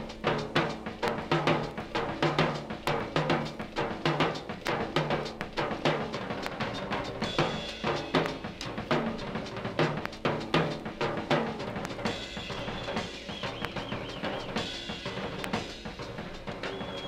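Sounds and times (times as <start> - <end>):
drum kit playing: 0.0 - 17.0.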